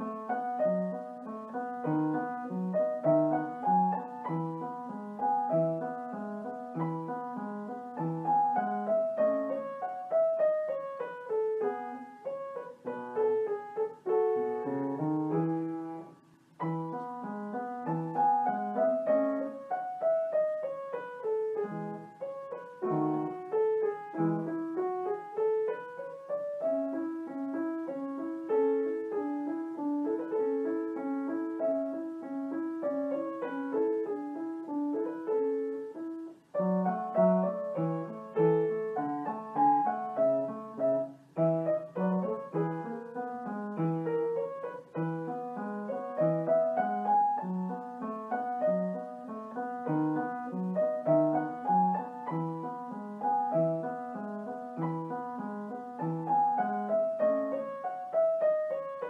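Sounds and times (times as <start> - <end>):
solo piano music: 0.0 - 59.0.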